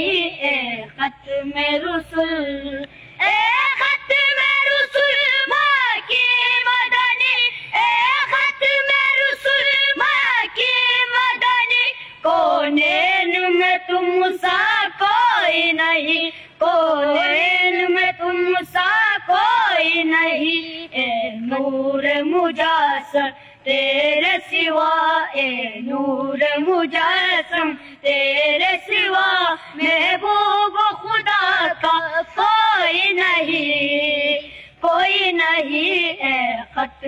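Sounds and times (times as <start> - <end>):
boys singing in high voices: 0.0 - 37.0.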